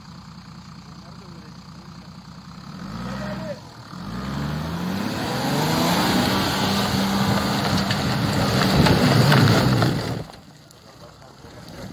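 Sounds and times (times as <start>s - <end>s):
car engine revving under load: 0.0s - 10.5s
tyres churning through mud and stones: 0.8s - 11.9s.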